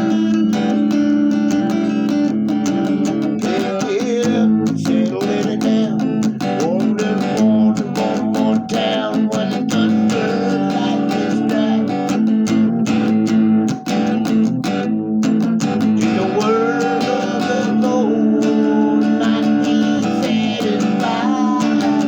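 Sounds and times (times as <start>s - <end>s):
strummed guitar: 0.0s - 22.0s.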